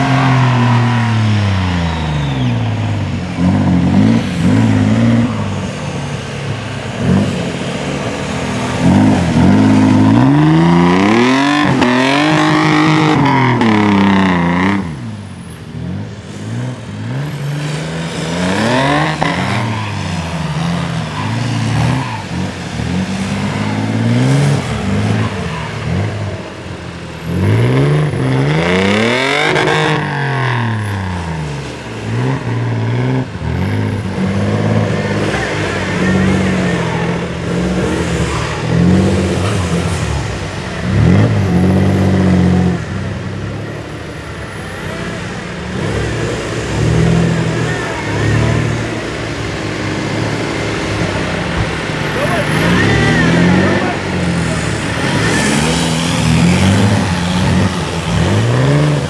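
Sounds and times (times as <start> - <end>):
buggy engines revving: 0.0 - 59.0.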